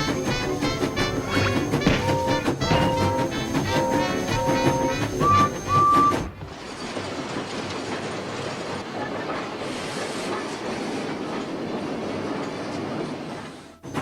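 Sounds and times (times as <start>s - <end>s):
train rattling on rails: 0.0s - 14.0s.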